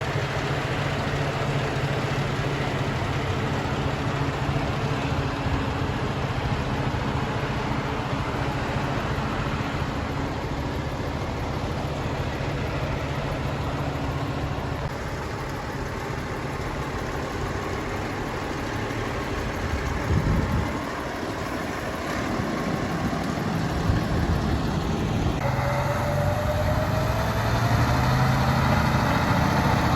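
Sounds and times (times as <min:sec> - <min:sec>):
fire truck diesel engine idling: 0:00.0 - 0:29.9.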